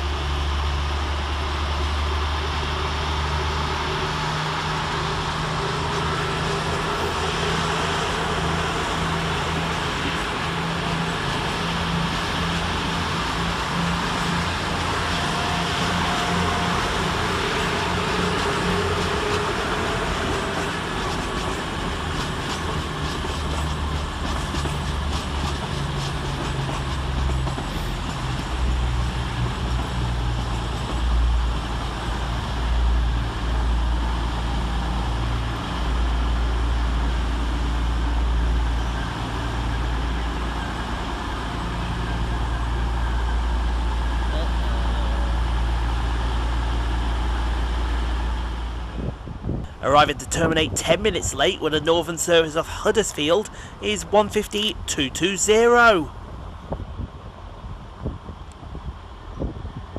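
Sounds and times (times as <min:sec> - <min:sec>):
diesel train engines droning: 0:00.0 - 0:59.9.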